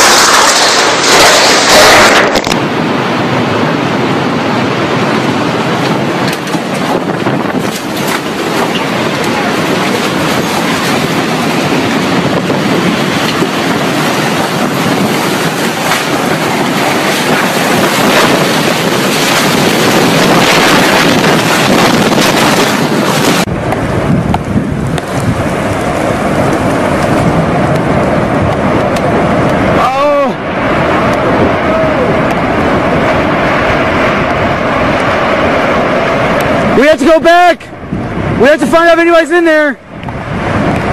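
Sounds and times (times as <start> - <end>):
strong wind buffeting microphone: 0.0 - 40.9.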